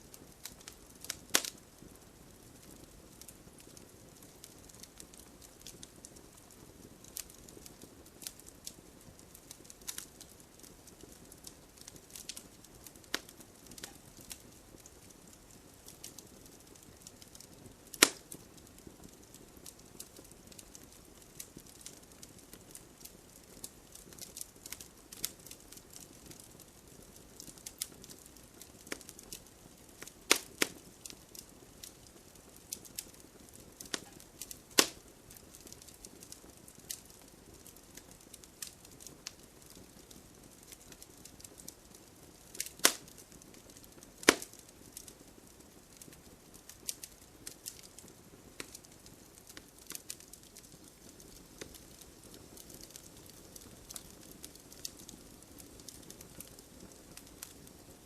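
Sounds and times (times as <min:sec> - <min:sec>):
faint steady hiss: 0:00.0 - 0:58.0
sharp fire snaps: 0:00.0 - 0:58.0
wood fire crackling: 0:00.0 - 0:58.0.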